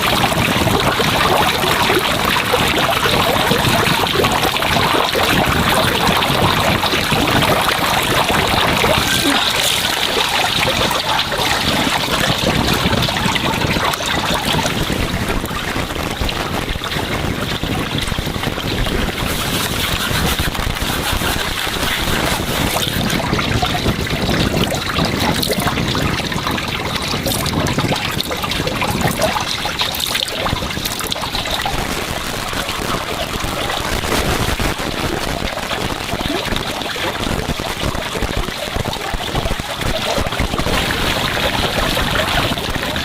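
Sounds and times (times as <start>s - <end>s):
water running steadily: 0.0s - 43.0s.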